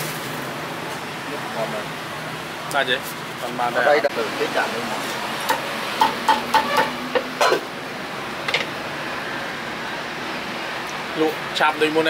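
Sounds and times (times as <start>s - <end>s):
street background hiss: 0.0s - 12.0s.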